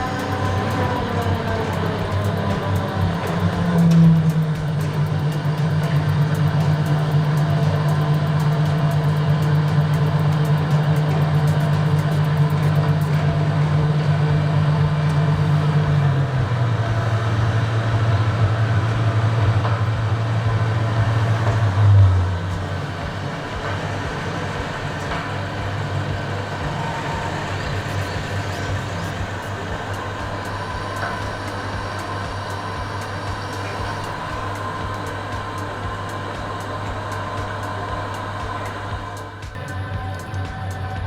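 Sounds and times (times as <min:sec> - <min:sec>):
electric motor humming: 0:00.0 - 0:41.0.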